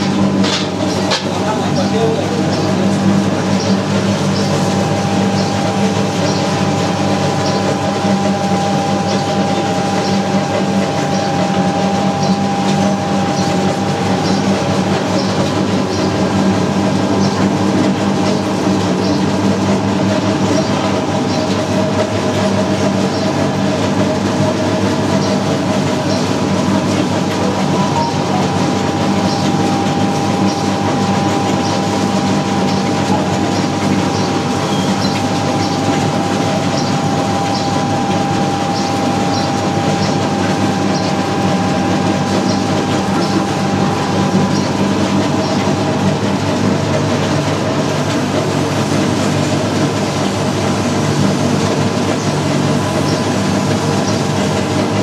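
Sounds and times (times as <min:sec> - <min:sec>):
grinding machine drone: 0:00.0 - 0:55.0.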